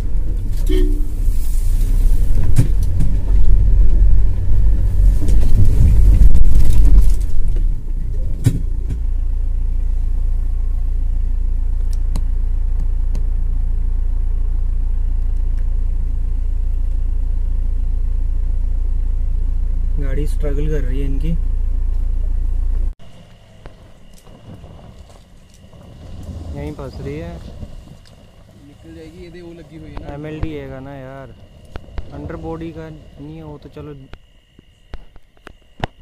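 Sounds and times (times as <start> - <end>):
suv engine rumbling and idling: 0.0 - 36.0.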